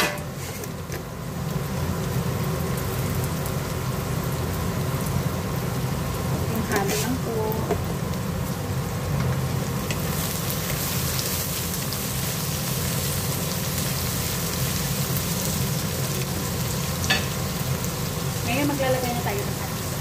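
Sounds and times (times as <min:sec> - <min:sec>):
vegetables sizzling in a wok: 0:00.0 - 0:20.0.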